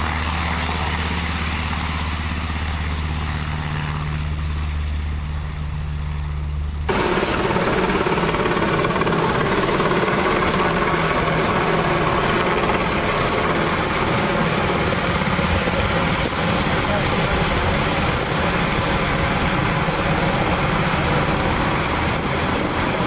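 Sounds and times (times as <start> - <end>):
helicopter rotor beating: 0.0 - 23.0
turbine noise: 0.0 - 23.0.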